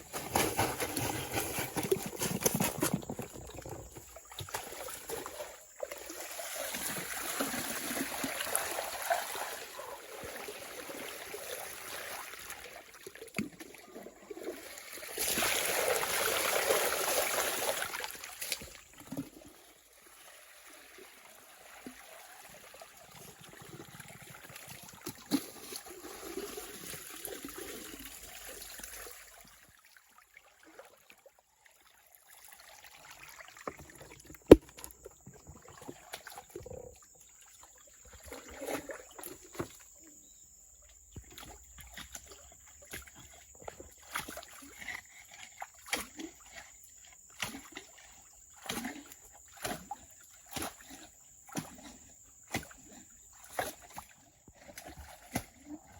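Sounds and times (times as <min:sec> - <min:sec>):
water trickling and sloshing: 0:00.0 - 0:55.9.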